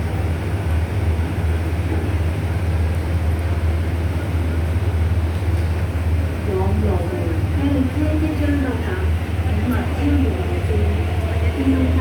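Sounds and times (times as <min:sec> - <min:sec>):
train running low rumble: 0:00.0 - 0:12.0.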